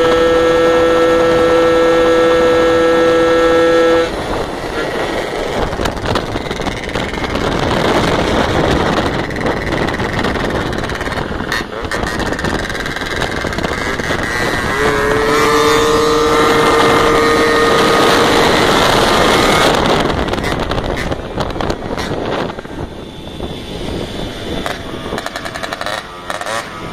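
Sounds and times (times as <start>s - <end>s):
moped engine running hard: 0.0s - 26.9s
wind on microphone: 0.0s - 26.9s.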